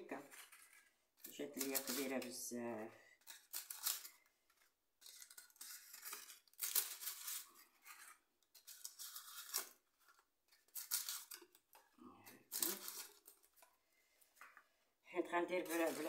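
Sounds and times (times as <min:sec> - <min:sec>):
paper packaging crinkling: 0:00.0 - 0:02.4, 0:03.2 - 0:13.7, 0:15.4 - 0:16.0.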